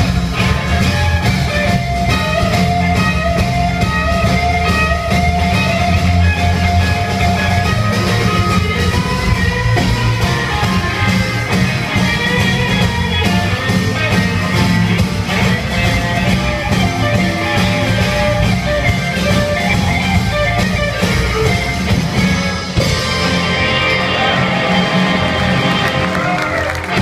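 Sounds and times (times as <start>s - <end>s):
live blues band playing: 0.0s - 27.0s.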